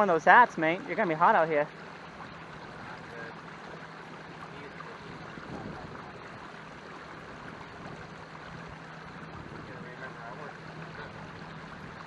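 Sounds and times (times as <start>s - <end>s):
water washing: 0.0s - 12.0s.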